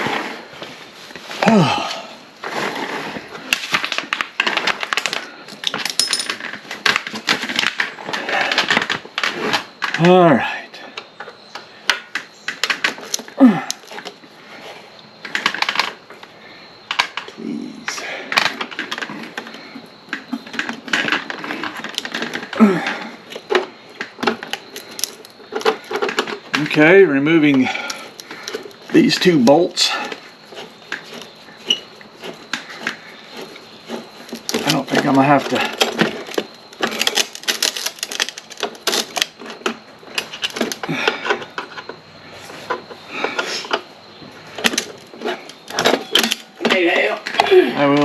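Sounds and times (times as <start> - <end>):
clatter of hand tools and metal parts: 0.0 - 16.3, 16.9 - 48.0.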